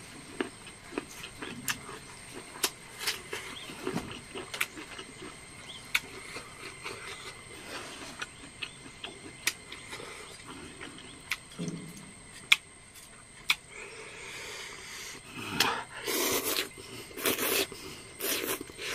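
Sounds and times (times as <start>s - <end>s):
man chewing: 0.0s - 13.8s, 14.5s - 18.9s.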